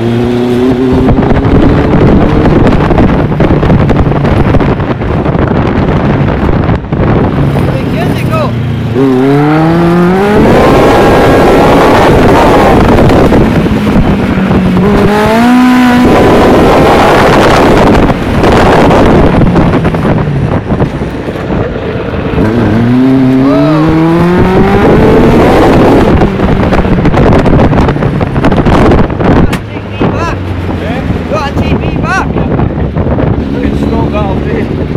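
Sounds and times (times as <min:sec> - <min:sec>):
motorcycle engine revving hard: 0:00.0 - 0:20.9, 0:21.5 - 0:31.4.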